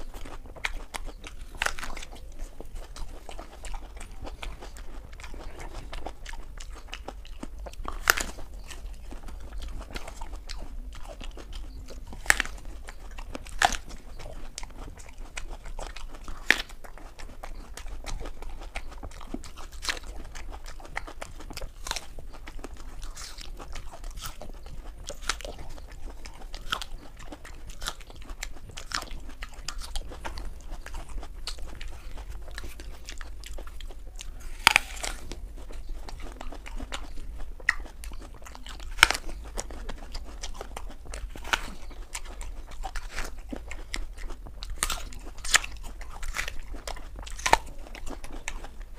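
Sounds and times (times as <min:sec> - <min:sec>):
apple bites crunching: 0:00.0 - 0:48.9
chewing: 0:00.0 - 0:48.9
faint low hum: 0:00.0 - 0:48.9.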